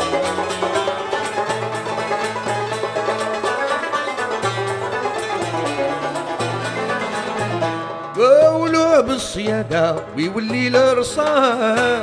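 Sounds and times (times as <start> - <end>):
plucked lute playing: 0.0 - 12.0.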